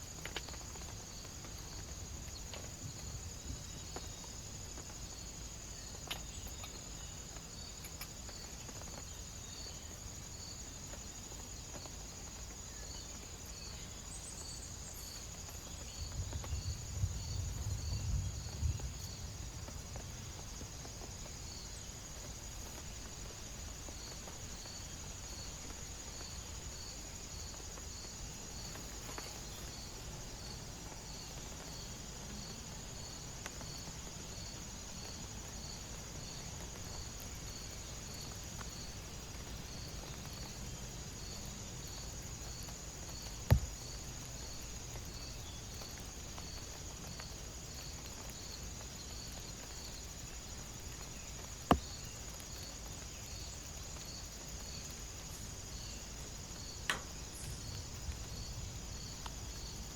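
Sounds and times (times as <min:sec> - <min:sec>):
crickets chirping: 0:00.0 - 0:59.9
high insect whine: 0:00.0 - 0:59.9.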